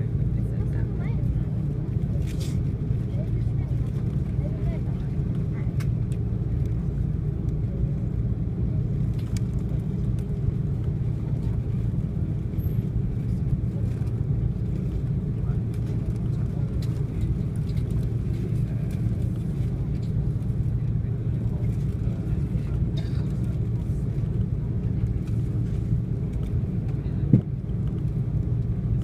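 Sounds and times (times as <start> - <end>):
jet engine rumble in cabin: 0.0 - 29.0.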